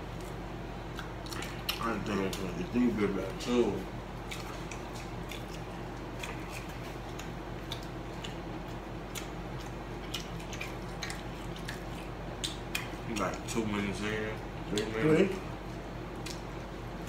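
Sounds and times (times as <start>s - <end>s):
person chewing food: 0.0s - 2.7s, 4.2s - 13.5s, 14.7s - 17.0s
steady low hum: 0.0s - 17.0s.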